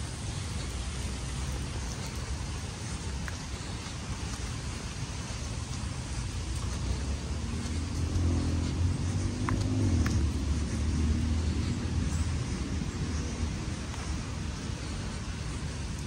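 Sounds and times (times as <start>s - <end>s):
background hiss: 0.0s - 16.0s
vehicle engine rumble passing: 0.0s - 16.0s.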